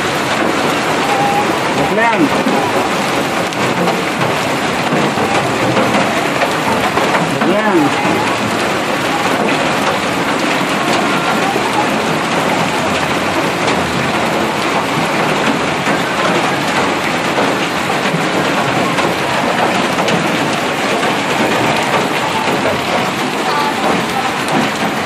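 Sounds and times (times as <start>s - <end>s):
hailstones hitting ground: 0.0s - 25.0s.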